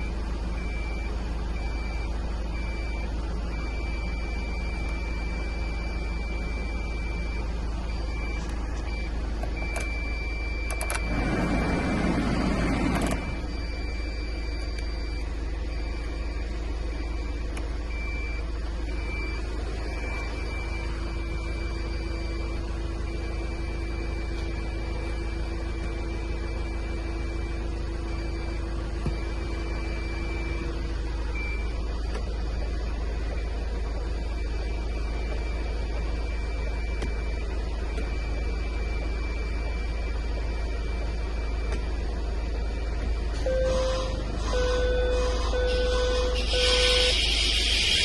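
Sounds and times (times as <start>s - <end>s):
diesel engine idling: 0.0s - 48.0s
steady hum: 0.0s - 48.0s.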